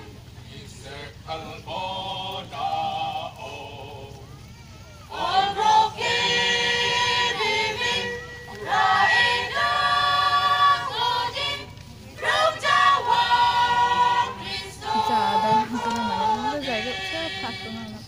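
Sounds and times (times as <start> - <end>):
women's choir singing: 0.0 - 4.2, 5.1 - 18.0.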